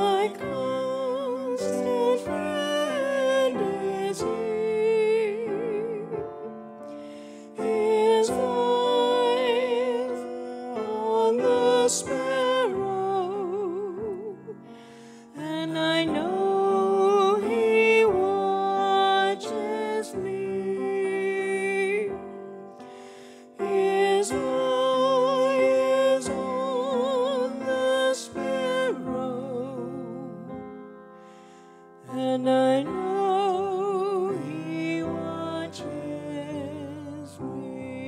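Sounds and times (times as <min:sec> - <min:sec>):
woman singing with vibrato: 0:00.0 - 0:06.2, 0:07.6 - 0:14.6, 0:15.3 - 0:22.1, 0:23.6 - 0:30.5, 0:32.1 - 0:38.0
piano accompaniment: 0:00.0 - 0:38.0.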